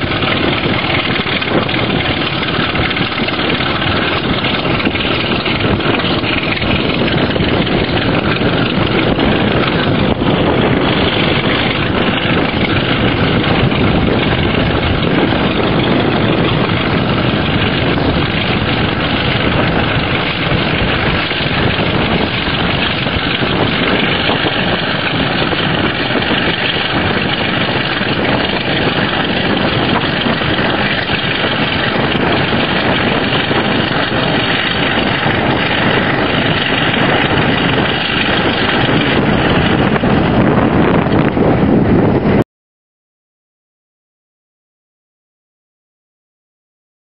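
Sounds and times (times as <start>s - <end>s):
diesel locomotive engine thrashing: 0.0s - 42.4s.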